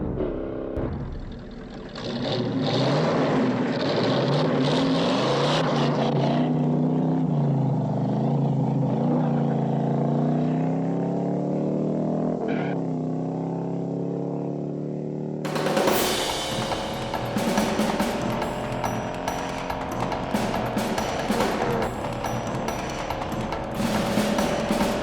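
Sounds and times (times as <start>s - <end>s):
car engines revving: 1.4s - 25.0s.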